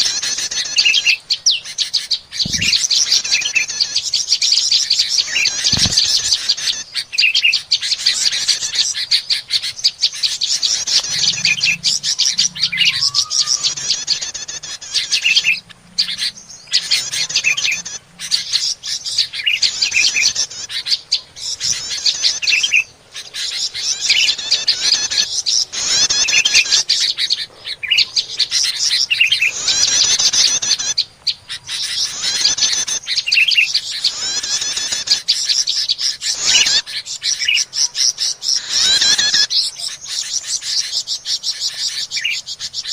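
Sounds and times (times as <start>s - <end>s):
small songbirds chirping and trilling: 0.0s - 42.9s.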